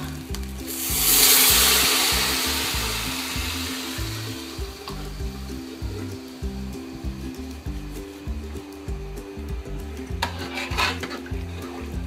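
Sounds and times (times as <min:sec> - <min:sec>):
background music: 0:00.0 - 0:12.0
hot oil hissing from poured water: 0:00.0 - 0:12.0.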